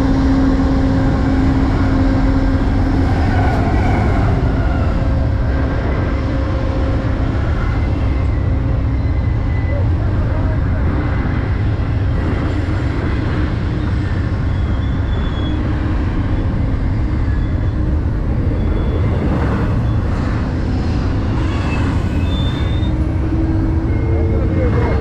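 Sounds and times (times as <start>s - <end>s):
train engine rumble: 0.0s - 25.0s.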